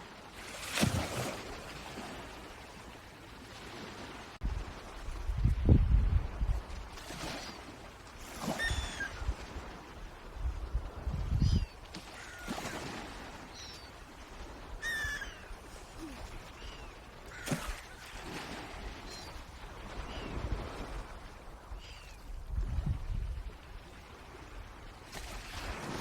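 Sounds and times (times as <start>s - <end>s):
rush of wind or water: 0.0s - 26.0s.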